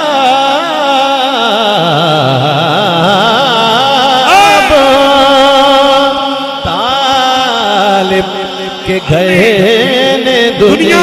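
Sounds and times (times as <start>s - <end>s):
man singing devotional verse: 0.0s - 11.0s.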